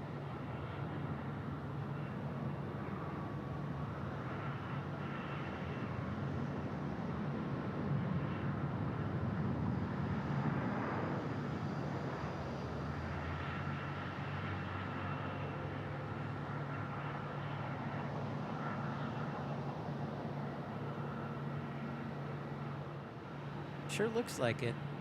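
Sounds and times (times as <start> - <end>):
faint jet engine whine: 0.0 - 25.0.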